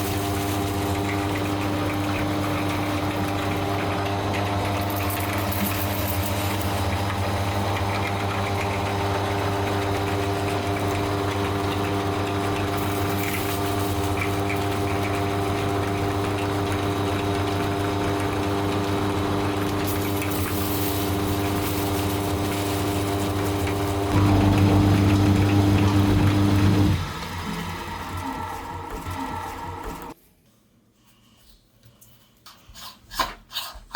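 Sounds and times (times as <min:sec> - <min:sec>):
meat grinder motor humming: 0:00.0 - 0:30.2.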